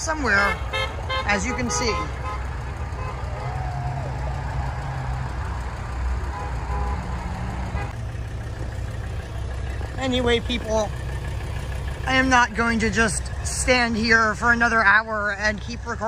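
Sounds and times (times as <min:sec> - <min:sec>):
trucks driving past: 0:00.0 - 0:16.0.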